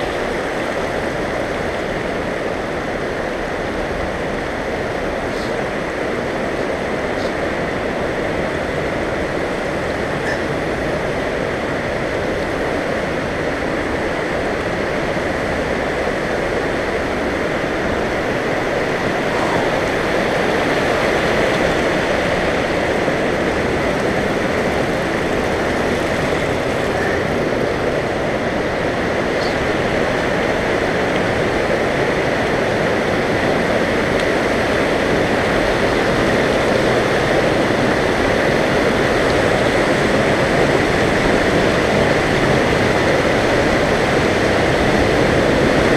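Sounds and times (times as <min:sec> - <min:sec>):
creek rushing over rocks: 0:00.0 - 0:45.9.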